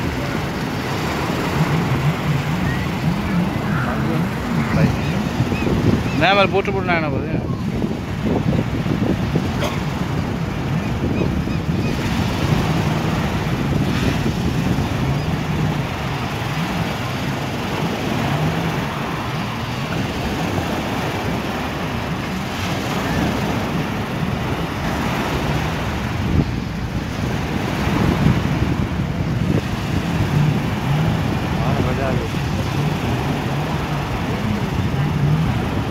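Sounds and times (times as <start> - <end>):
jet ski engine running: 0.0 - 35.9
surf washing: 0.0 - 35.9
wind on microphone: 0.0 - 35.9.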